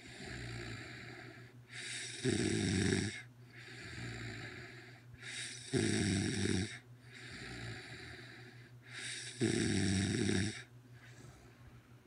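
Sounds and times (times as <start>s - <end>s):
woman snoring: 0.0s - 10.7s.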